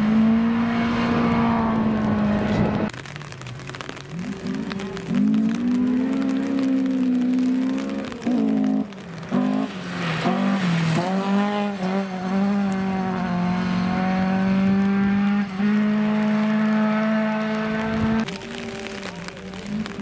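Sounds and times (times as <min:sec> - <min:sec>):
rally car engine revving: 0:00.0 - 0:03.0, 0:03.9 - 0:20.0
gravel spraying from tyres: 0:00.3 - 0:20.0.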